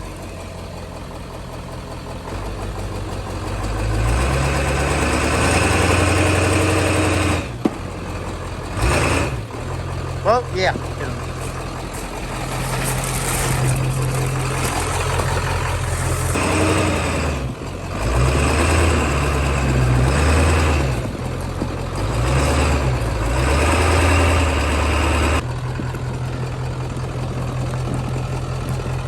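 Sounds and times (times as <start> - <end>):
truck engine idling: 0.0 - 29.0
truck engine revving: 0.0 - 29.0.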